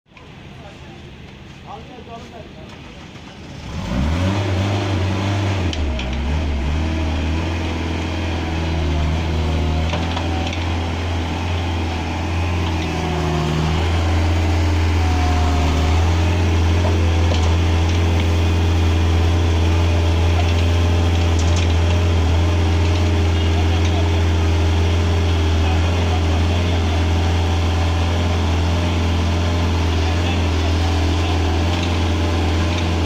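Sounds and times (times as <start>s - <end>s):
diesel engine under load: 0.1s - 33.0s.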